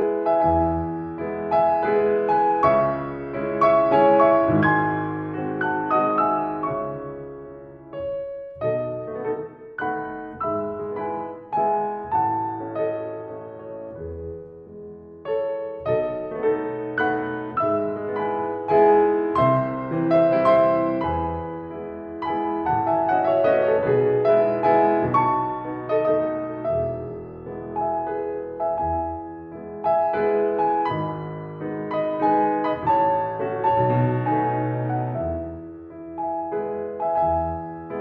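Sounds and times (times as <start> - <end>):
solo piano melody: 0.0 - 38.0.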